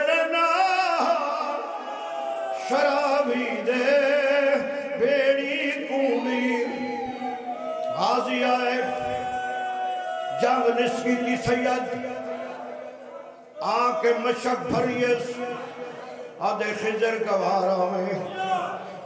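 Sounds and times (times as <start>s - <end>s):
man chanting a lament: 0.0s - 19.0s.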